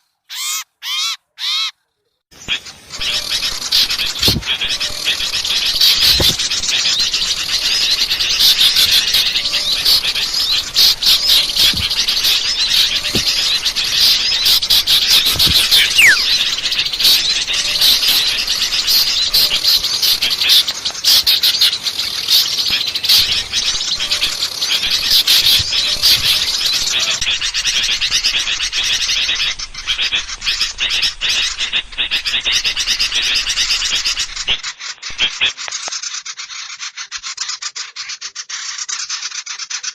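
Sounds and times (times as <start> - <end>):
many small birds chirping: 2.3 - 39.9.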